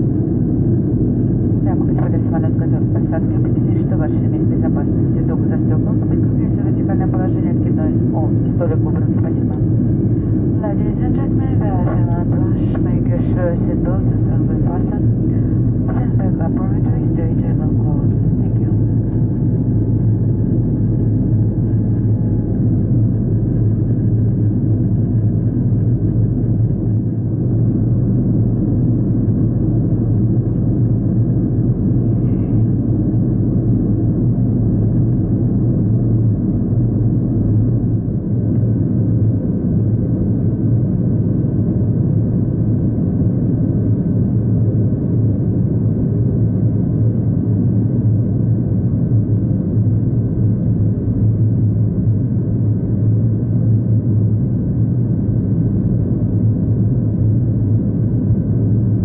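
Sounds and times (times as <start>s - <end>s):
airplane cabin roar: 0.0s - 59.0s
deep rumble: 0.0s - 59.0s.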